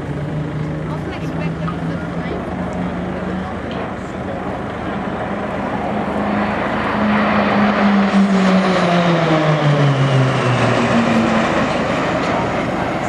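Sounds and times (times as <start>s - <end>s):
turboprop aircraft flying past: 0.0s - 13.0s.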